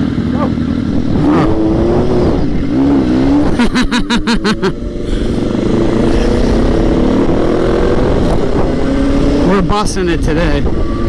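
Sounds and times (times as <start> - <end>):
engine stutter of sharp pulses: 0.0 - 11.0
motorcycle engine running: 0.0 - 11.0
wind rushing over microphone: 0.7 - 3.8, 4.8 - 11.0.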